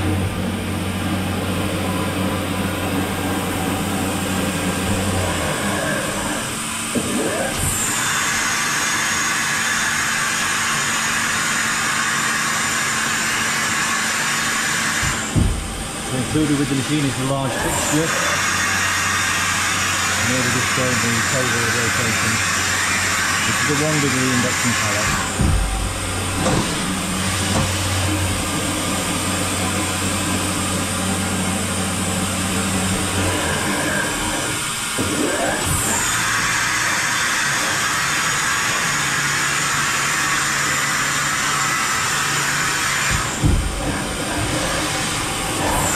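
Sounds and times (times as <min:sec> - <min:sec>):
high machine whine: 0:00.0 - 0:45.9
steady machine hum: 0:00.0 - 0:45.9.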